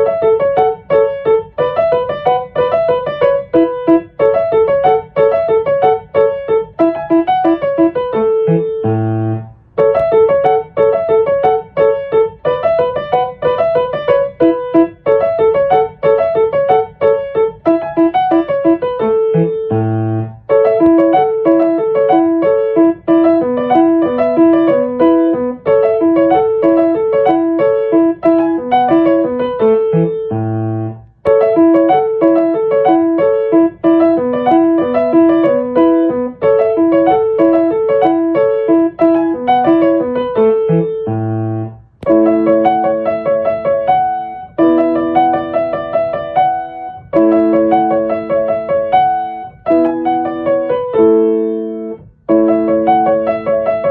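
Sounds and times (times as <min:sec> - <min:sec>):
piano playing repeating melody: 0:00.0 - 0:53.9.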